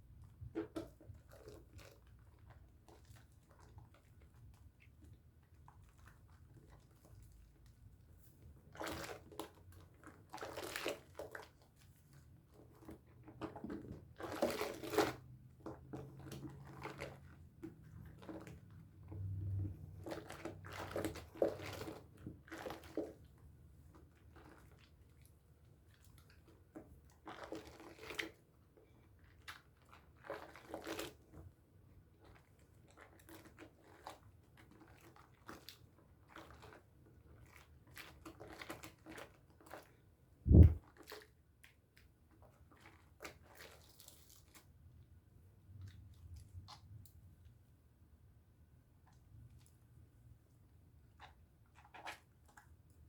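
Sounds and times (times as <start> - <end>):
soap lathering in wet hands: 0.2 - 39.9, 40.5 - 47.7.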